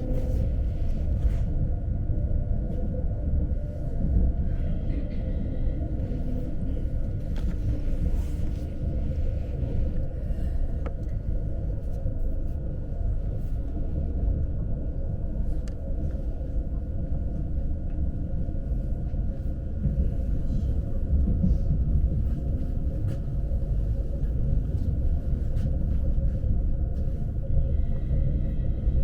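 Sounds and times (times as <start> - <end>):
faint steady whine: 0.0 - 29.0
train interior rumble: 0.0 - 29.0.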